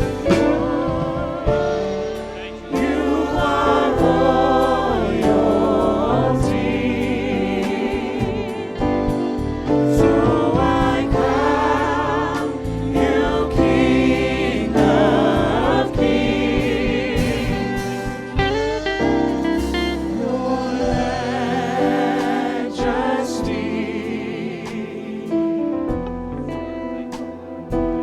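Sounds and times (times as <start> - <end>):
voices singing with vibrato: 0.0 - 26.0
instrumental backing: 0.0 - 28.0.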